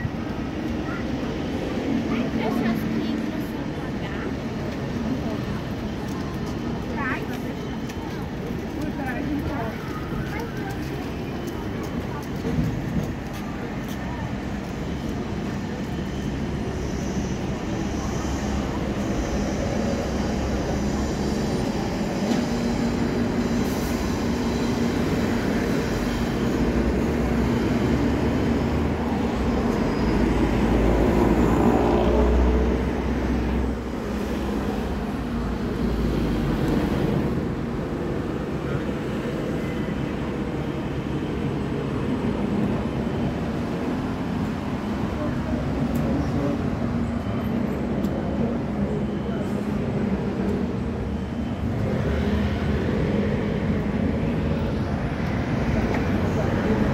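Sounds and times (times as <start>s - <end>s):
bus engine rumble passing: 0.0s - 56.9s
city road traffic: 0.0s - 56.9s.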